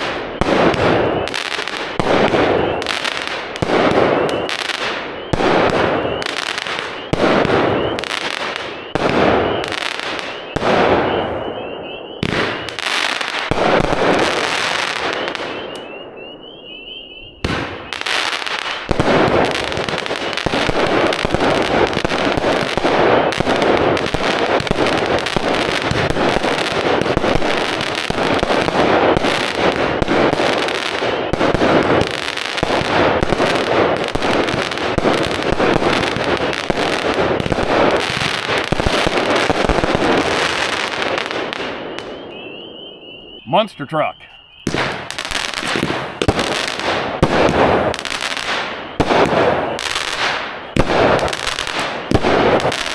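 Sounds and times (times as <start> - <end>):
firework barrage of bangs: 0.0 - 43.7, 44.6 - 52.9
firework shots with crackle: 0.0 - 44.0, 44.6 - 52.9.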